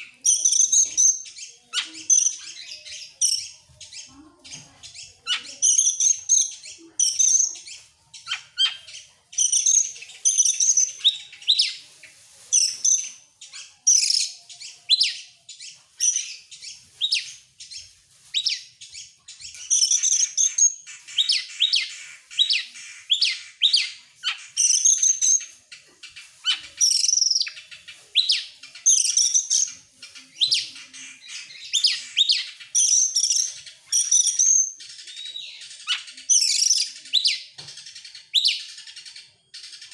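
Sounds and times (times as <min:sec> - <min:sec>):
bird singing: 0:00.0 - 0:04.1, 0:04.9 - 0:11.8, 0:12.6 - 0:39.9.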